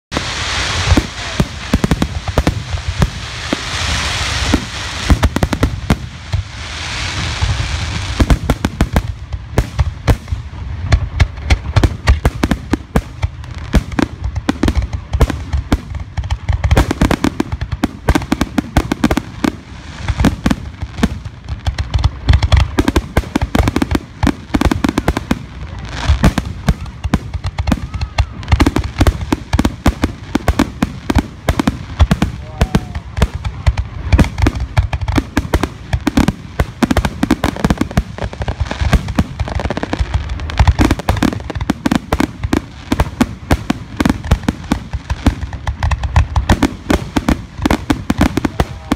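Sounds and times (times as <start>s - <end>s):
firework hiss and crackle: 0.1s - 48.9s.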